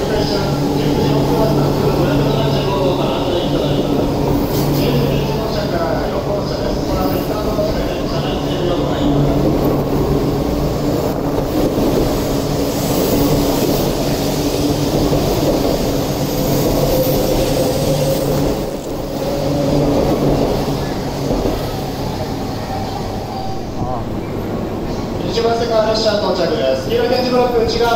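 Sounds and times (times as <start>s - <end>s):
train wheels rumbling: 0.0s - 27.9s.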